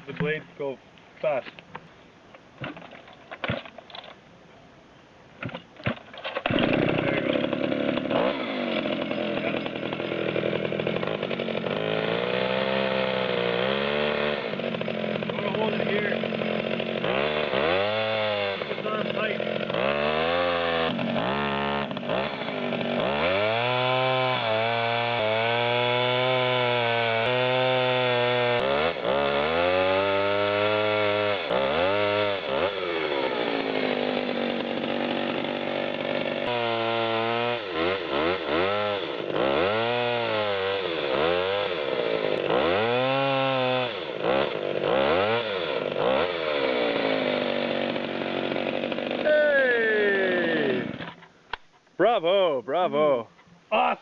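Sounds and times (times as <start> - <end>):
chainsaw revving cutting log: 6.4 - 51.2.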